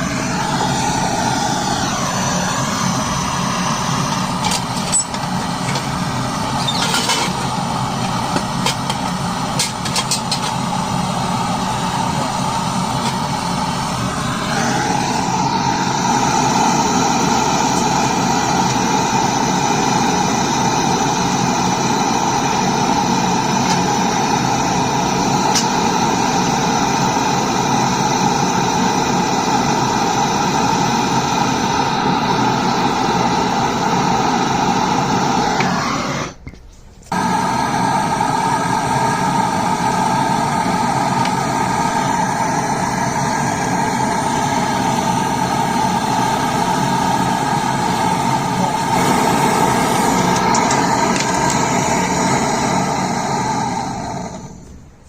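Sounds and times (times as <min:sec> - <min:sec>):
machine humming with hiss: 0:00.0 - 0:36.4, 0:37.0 - 0:55.0.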